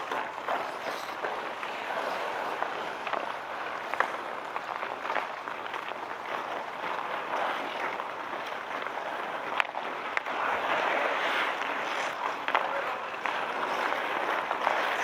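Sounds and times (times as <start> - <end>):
skates scraping ice: 0.0 - 15.0.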